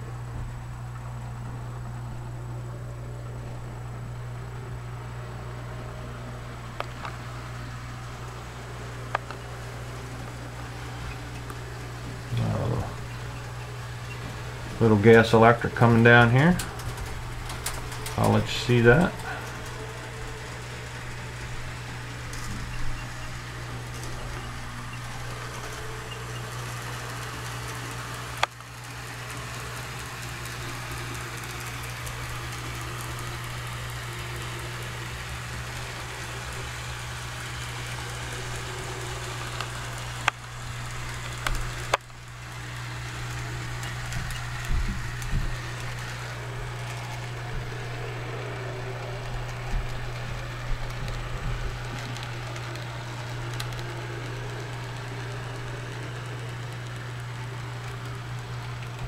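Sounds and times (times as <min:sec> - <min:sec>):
low electric hum: 0:00.0 - 0:59.0
model train running on track: 0:00.0 - 0:59.0.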